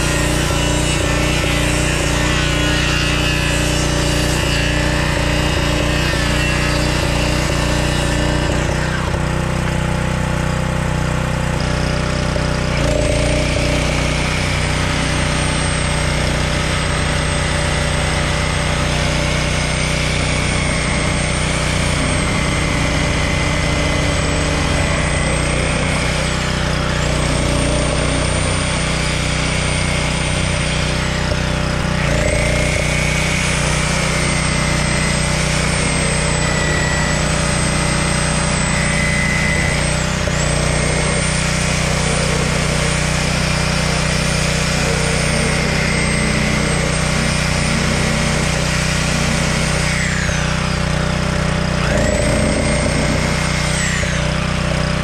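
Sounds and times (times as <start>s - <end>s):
circular saw cutting wood: 0.0s - 55.0s
reciprocating saw whining and chattering: 0.0s - 55.0s.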